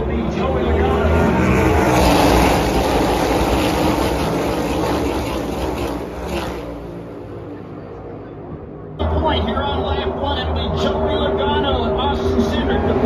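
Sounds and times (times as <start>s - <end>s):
race cars passing: 0.0s - 13.0s.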